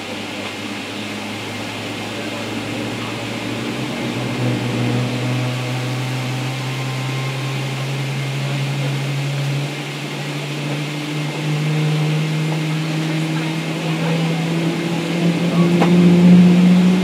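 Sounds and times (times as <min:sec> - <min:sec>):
jet engine spooling up: 0:00.0 - 0:17.0.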